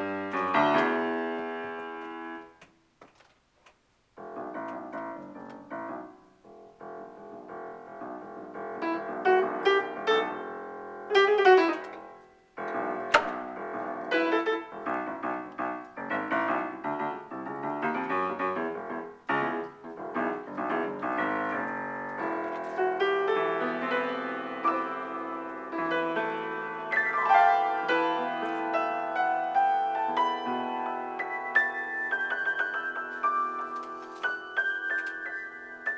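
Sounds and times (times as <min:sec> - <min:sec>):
piano chords and runs: 0:00.0 - 0:02.7, 0:04.1 - 0:35.9.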